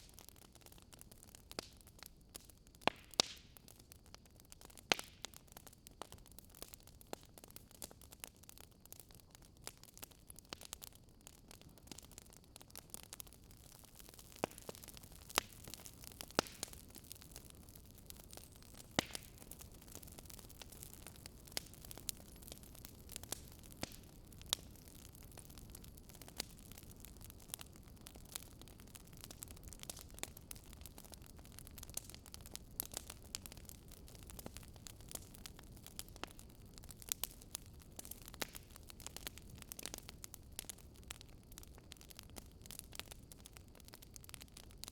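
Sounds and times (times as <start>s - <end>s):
faint steady hiss: 0.0s - 44.9s
wood fire crackling: 0.0s - 44.9s.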